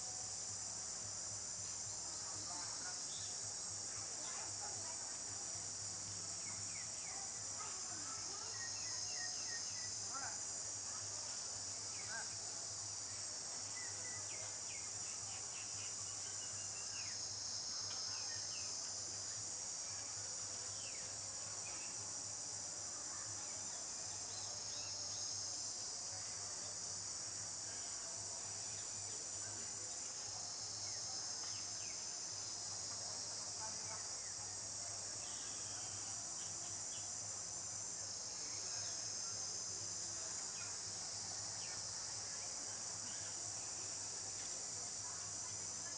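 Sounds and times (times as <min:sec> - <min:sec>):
insects buzzing trill: 0:00.0 - 0:45.9.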